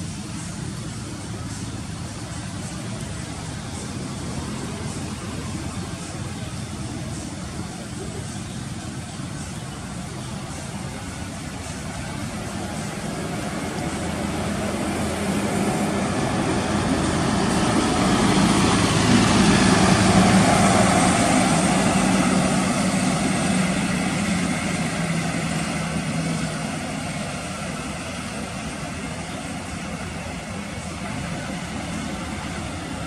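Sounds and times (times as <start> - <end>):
bus diesel engine passing: 0.0 - 33.0.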